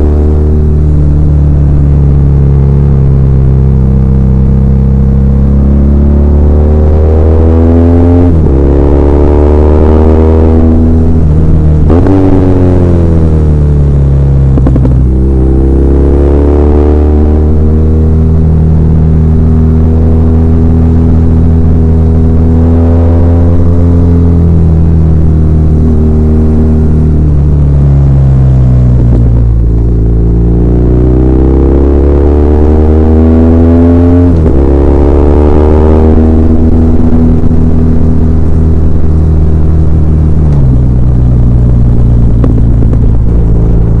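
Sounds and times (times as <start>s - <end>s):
motorcycle engine droning: 0.0s - 44.0s.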